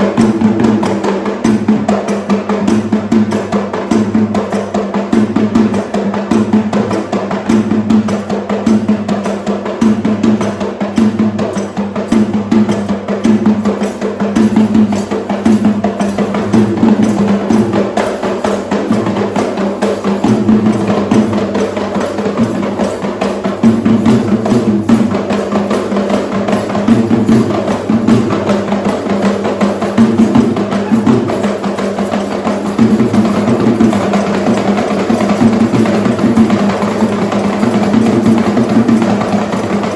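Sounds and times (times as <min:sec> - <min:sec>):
fast dense drumming: 0:00.0 - 0:39.9.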